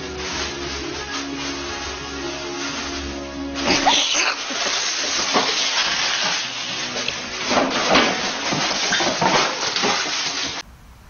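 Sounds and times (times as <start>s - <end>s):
recording noise hiss: 0.0s - 11.0s.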